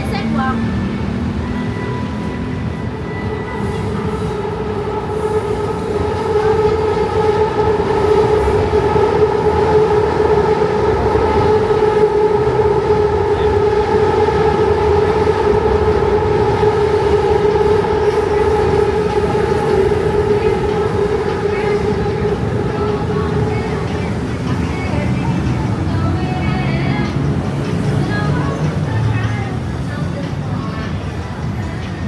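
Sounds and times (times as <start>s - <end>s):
train humming: 0.0s - 32.0s.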